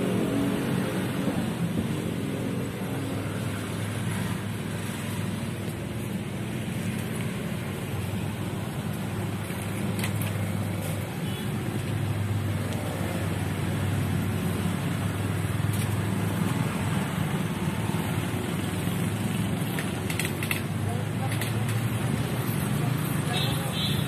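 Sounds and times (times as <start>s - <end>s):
motorcycles and cars passing: 0.0s - 24.0s.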